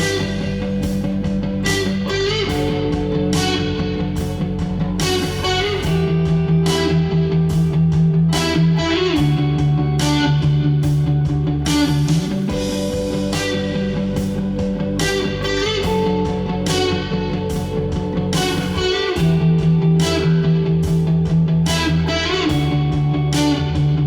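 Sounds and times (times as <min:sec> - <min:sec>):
electric bass: 0:00.0 - 0:24.0
electric guitars: 0:00.0 - 0:24.0
programmed drum beat: 0:00.0 - 0:24.0.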